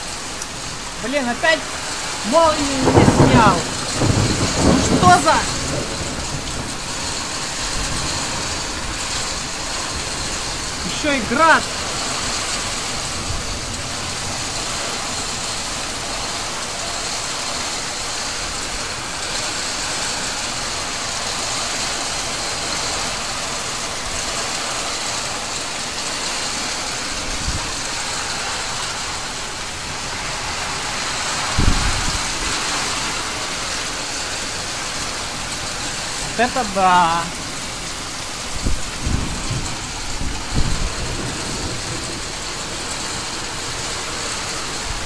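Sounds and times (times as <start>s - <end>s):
rain and hail on metal roof: 0.0s - 45.0s.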